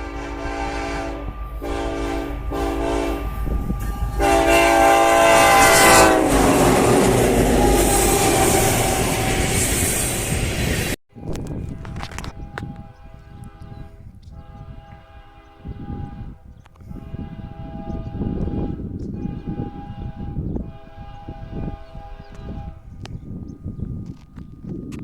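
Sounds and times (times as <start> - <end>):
freight train rumbling by: 0.0 - 24.8.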